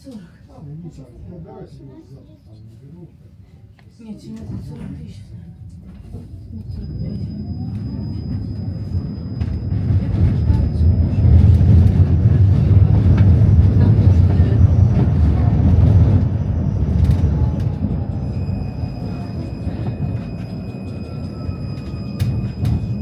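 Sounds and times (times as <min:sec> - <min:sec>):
tram wheels rumbling on track: 0:04.4 - 0:23.0.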